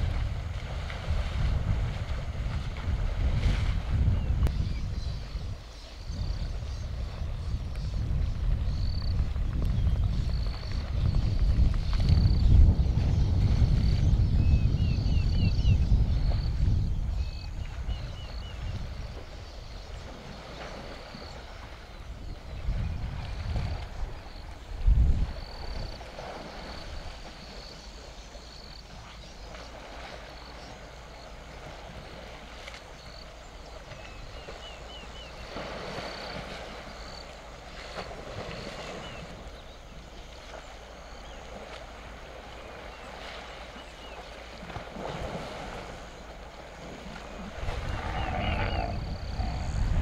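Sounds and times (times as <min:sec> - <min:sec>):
elephants splashing in water: 0:00.0 - 0:07.5, 0:17.2 - 0:50.0.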